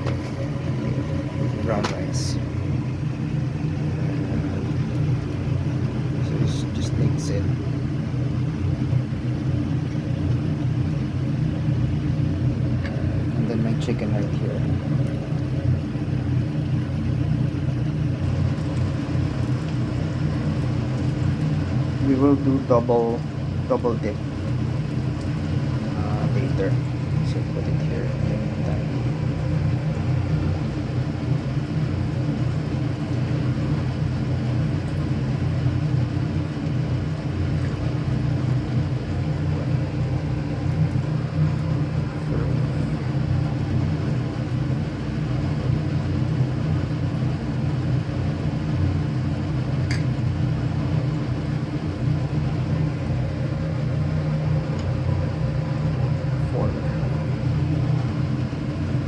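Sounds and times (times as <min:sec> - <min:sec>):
low machine drone: 0:00.0 - 0:59.0.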